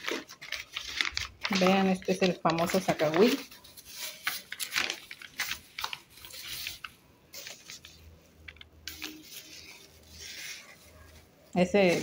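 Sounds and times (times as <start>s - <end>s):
plastic and paper crinkling: 0.0s - 12.0s.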